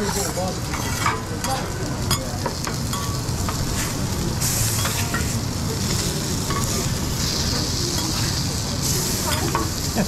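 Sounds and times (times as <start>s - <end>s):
food sizzling on griddle: 0.0s - 10.0s.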